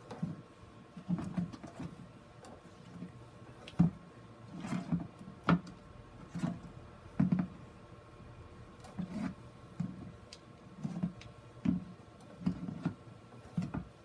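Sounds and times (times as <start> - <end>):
plastic rustling and scraping: 0.0 - 7.5, 8.8 - 13.9.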